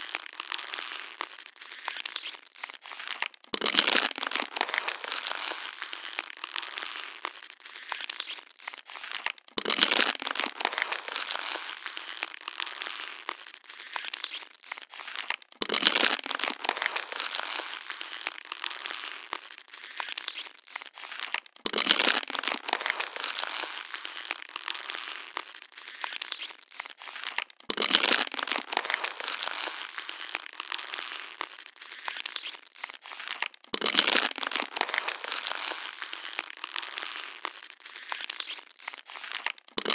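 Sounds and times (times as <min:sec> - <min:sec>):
plastic bottle crinkling: 0:00.0 - 0:39.9.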